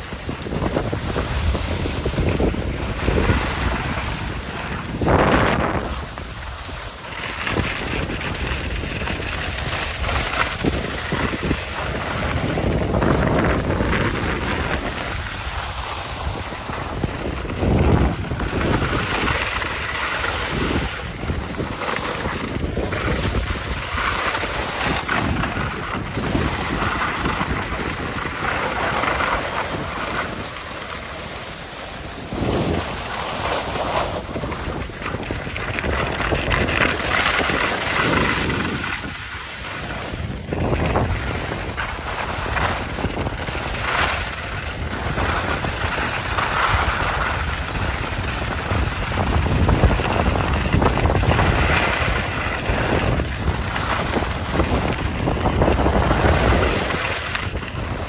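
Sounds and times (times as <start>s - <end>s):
skis hissing on snow: 0.0s - 58.0s
wind on microphone: 0.0s - 58.0s.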